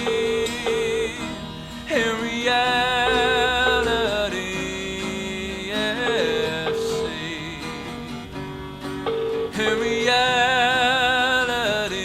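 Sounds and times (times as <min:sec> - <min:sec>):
person singing: 0:00.0 - 0:08.1, 0:09.5 - 0:12.0
acoustic guitar: 0:00.0 - 0:12.0.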